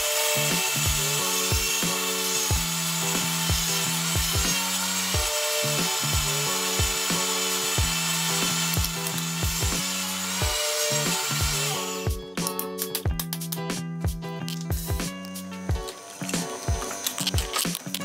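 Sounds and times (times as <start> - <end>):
background music with beat: 0.0 - 4.6, 5.2 - 18.0
grain mill whirring: 0.0 - 12.2, 15.6 - 18.0.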